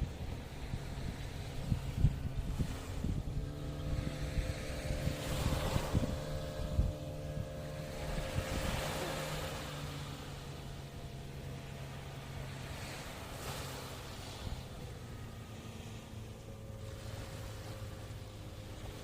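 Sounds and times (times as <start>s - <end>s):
sea waves breaking on shore: 0.0s - 19.0s
steady low hum: 0.0s - 19.0s
wind buffeting microphone: 0.0s - 19.0s.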